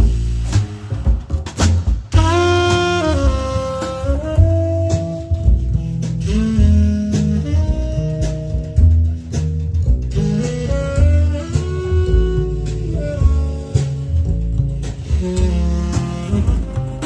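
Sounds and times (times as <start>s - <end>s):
deep bass notes: 0.0s - 17.0s
saxophone horn lines: 2.1s - 9.4s, 10.1s - 17.0s.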